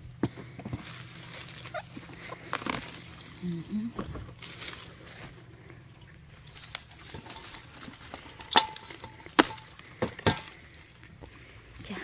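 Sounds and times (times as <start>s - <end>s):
pepper plants rustling: 0.4s - 5.8s, 6.4s - 12.0s.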